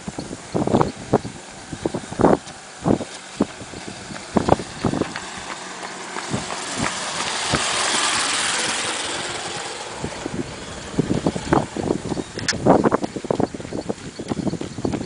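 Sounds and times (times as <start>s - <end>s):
vehicle passing by: 0.4s - 14.6s.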